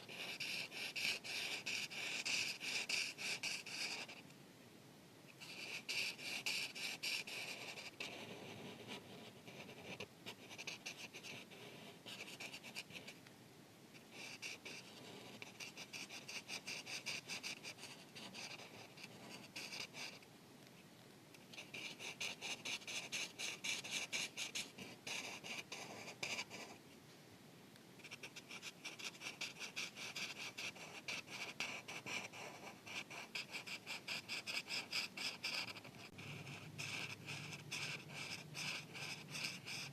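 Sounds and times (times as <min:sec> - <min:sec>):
marker scribbling on paper: 0:00.0 - 0:04.2, 0:05.4 - 0:13.1, 0:14.1 - 0:20.2, 0:21.5 - 0:26.8, 0:28.0 - 0:39.9.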